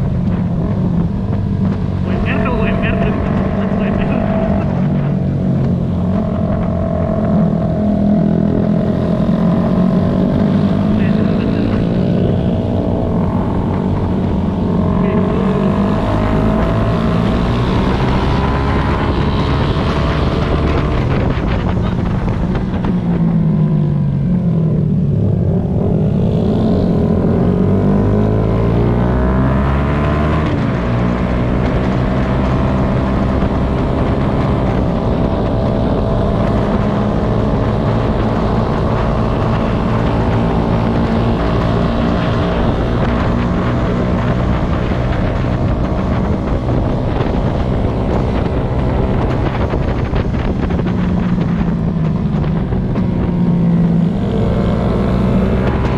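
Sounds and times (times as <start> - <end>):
motorcycle engine running: 0.0 - 55.9
wind on microphone: 0.0 - 55.9.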